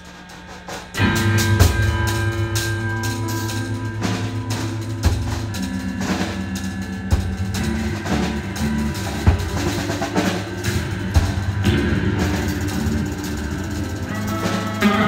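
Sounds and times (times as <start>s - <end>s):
loose drumming: 0.0s - 15.0s
hard drum hits: 0.6s - 15.0s
electric guitars low notes: 0.9s - 15.0s.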